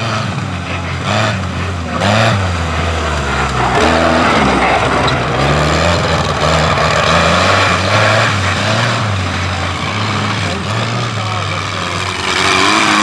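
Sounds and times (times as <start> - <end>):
tractor engine revving under load: 0.0 - 13.0.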